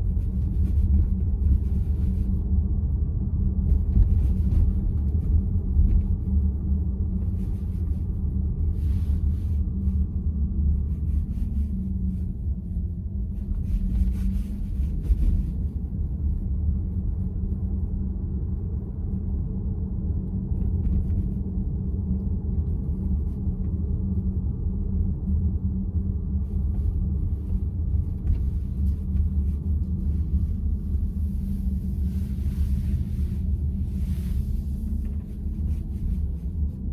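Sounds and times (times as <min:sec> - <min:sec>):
road and tyre rumble in car cabin: 0:00.0 - 0:36.9.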